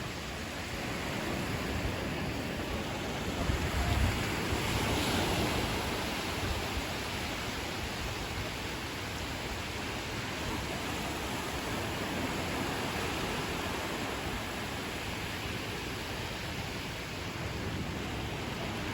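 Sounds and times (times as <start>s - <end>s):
ocean surf washing on beach: 0.0s - 18.9s.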